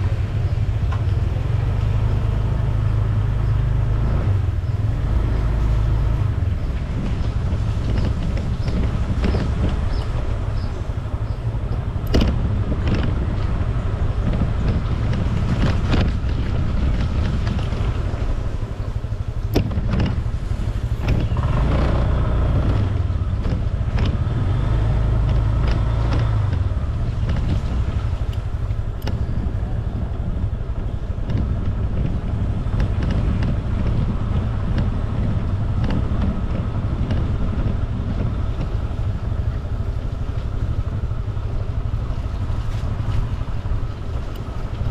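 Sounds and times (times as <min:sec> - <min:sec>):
road and wind noise: 0:00.0 - 0:44.9
scooter engine running: 0:00.0 - 0:44.9.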